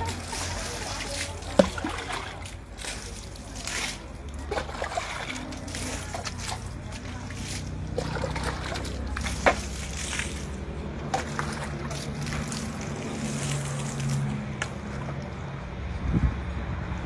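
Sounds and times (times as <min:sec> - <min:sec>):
water sloshing and splashing: 0:00.0 - 0:15.7.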